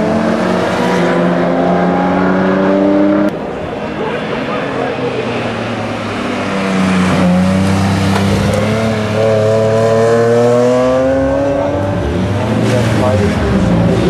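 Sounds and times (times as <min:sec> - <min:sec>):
race car engines accelerating: 0:00.0 - 0:14.0.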